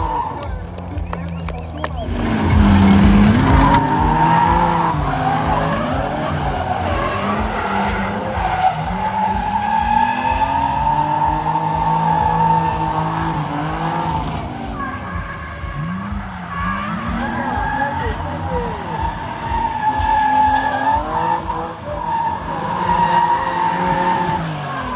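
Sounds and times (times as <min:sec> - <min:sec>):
car engines revving: 0:00.0 - 0:24.9
tyres screeching: 0:00.0 - 0:24.9.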